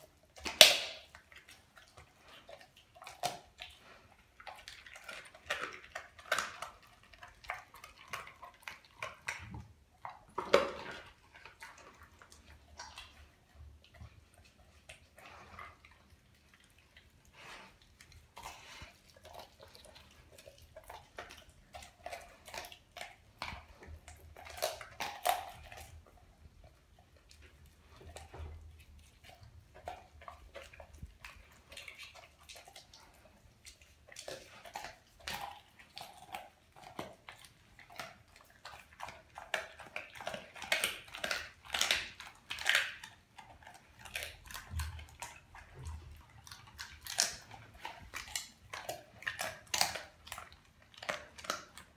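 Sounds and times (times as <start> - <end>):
dog chewing raw fish: 0.0 - 51.9.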